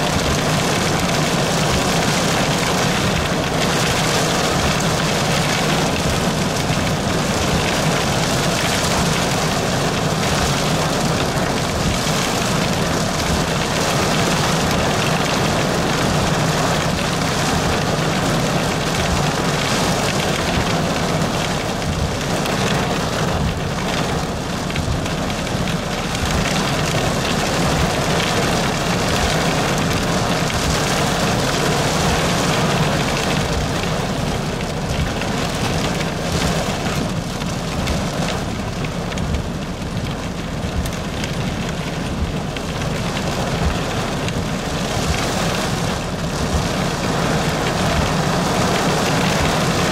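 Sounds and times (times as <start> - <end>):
heavy rain on car roof: 0.0 - 49.9.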